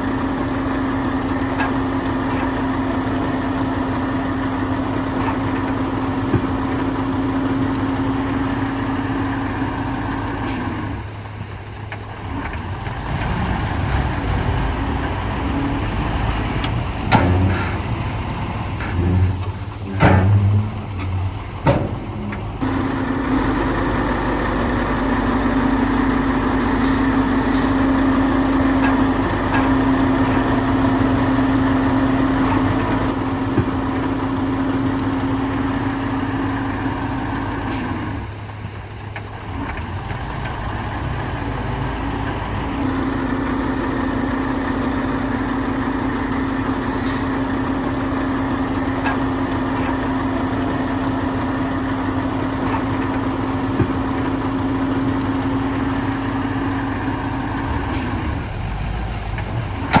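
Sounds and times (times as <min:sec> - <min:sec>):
heavy diesel machinery engine drone: 0:00.0 - 1:00.0.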